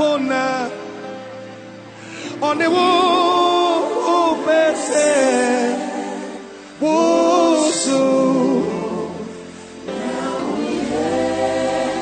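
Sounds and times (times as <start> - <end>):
gospel choir singing with accompaniment: 2.0 - 12.0.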